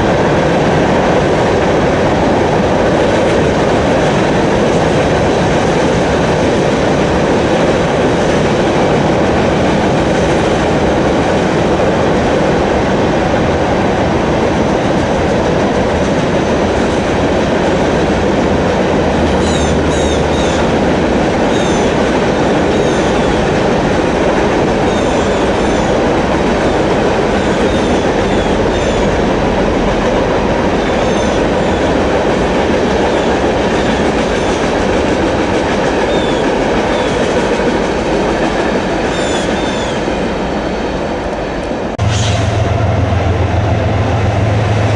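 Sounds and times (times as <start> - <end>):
train wheels clickety-clack: 0.0 - 44.9.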